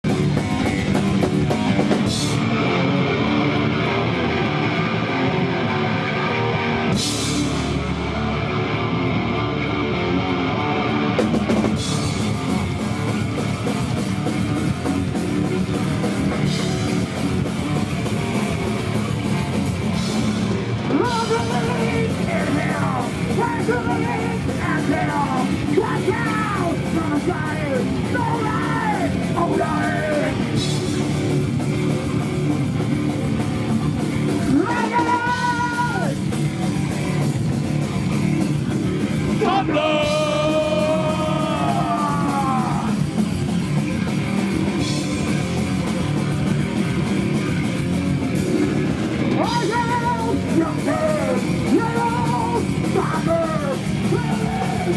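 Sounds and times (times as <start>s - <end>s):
bass guitar: 0.0s - 54.9s
distorted electric guitars: 0.0s - 54.9s
drum kit: 0.0s - 54.9s
high lead guitar line bending pitch: 0.0s - 54.9s.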